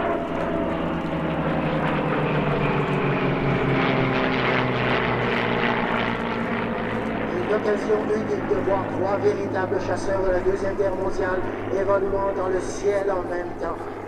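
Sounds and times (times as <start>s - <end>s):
propeller planes droning past: 0.0s - 14.0s.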